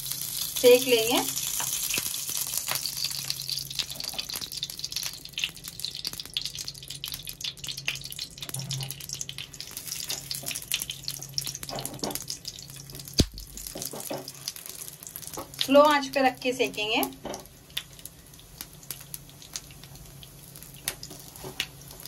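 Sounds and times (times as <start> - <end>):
ghee sizzling and crackling: 0.0 - 22.0.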